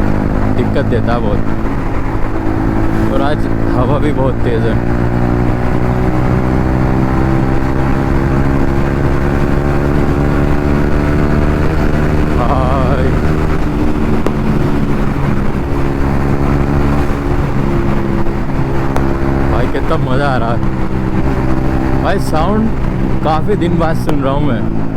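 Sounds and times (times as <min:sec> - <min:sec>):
wind rumble on microphone: 0:00.0 - 0:23.3
motorcycle engine running: 0:00.0 - 0:24.9.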